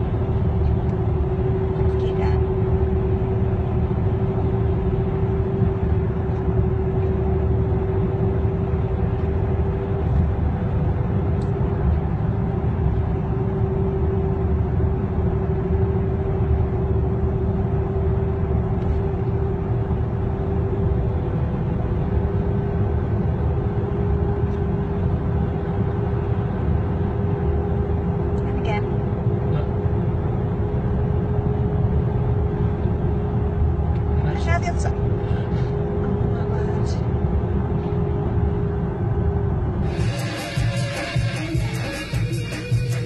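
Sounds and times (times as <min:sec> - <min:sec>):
car engine and road noise: 0:00.0 - 0:43.0
constant droning hum: 0:00.0 - 0:43.0.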